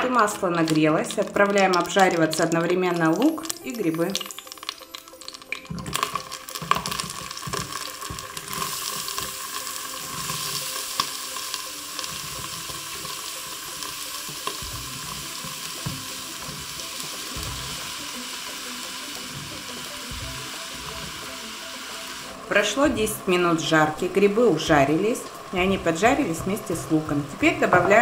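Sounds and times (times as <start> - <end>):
onions and mushrooms sizzling: 0.0 - 28.0.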